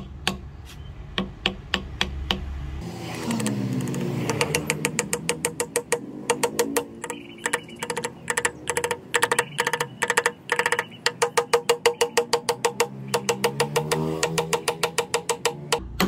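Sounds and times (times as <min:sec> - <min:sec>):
small hammer tapping wooden wedge: 0:00.0 - 0:00.5, 0:01.2 - 0:02.5, 0:03.2 - 0:15.8.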